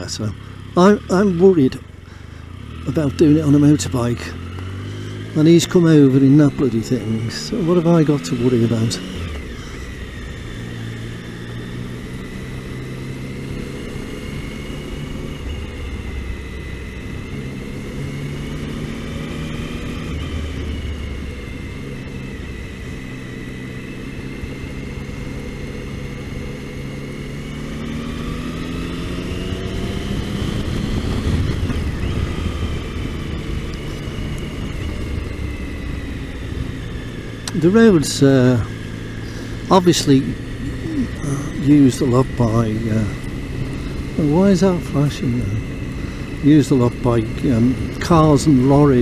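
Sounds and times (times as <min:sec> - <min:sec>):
motorcycle engine accelerating: 0:00.0 - 0:49.0.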